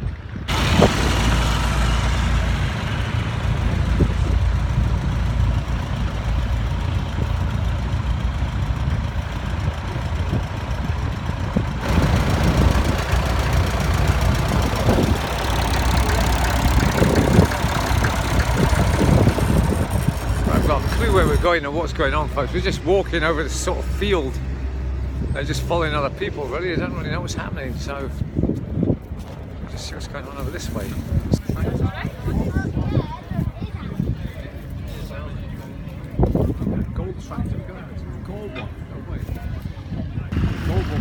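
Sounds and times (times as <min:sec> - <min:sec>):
tractor engines humming: 0:00.0 - 0:41.0.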